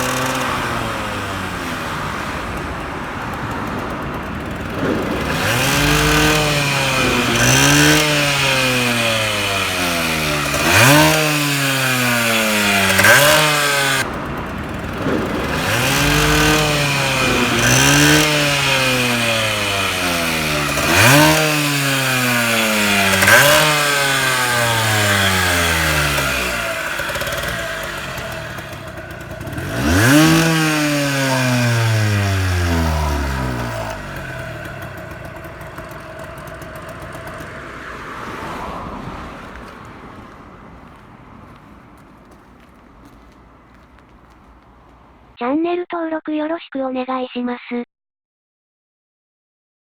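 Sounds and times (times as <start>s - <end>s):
two-stroke engine revving: 0.0s - 44.4s.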